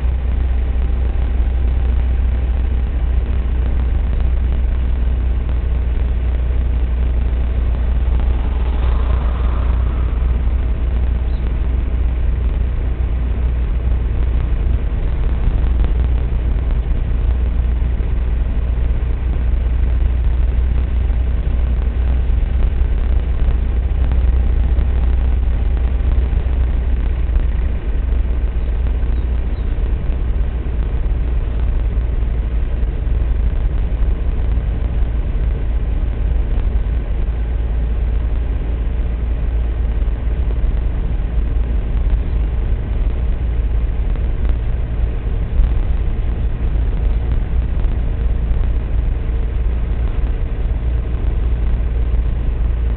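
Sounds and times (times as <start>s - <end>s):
car engine and road rumble: 0.0s - 52.9s.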